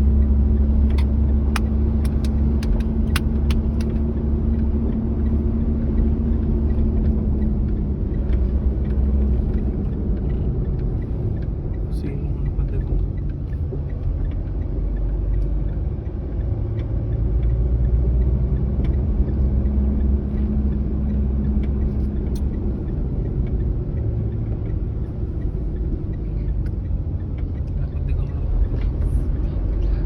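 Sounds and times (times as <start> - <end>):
car engine running: 0.0 - 30.0
road rumble: 0.0 - 30.0.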